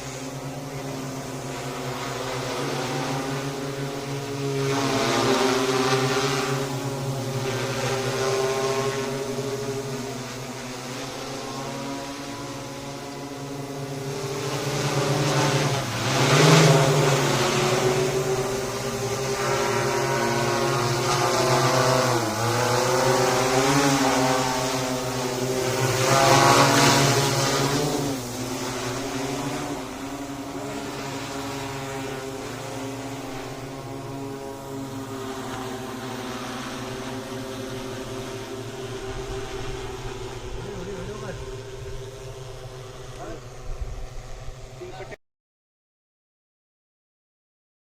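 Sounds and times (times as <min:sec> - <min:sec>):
drone propellers humming: 0:00.0 - 0:45.2.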